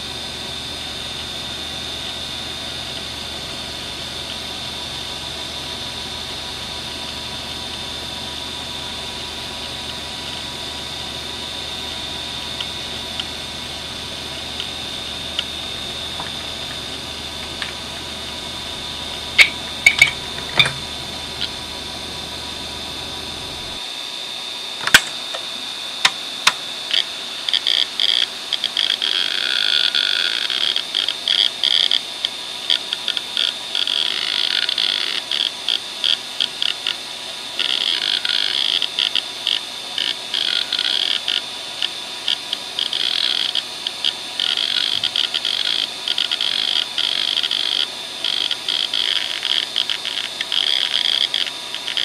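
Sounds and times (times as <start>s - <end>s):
hard drive seek chatter: 0.0s - 23.8s, 24.8s - 52.0s
hard drive spindle whine: 0.0s - 52.0s.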